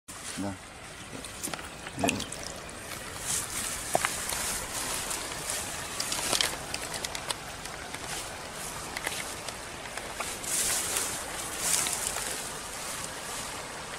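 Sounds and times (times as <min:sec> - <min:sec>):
water sloshing and trickling: 0:00.1 - 0:13.9.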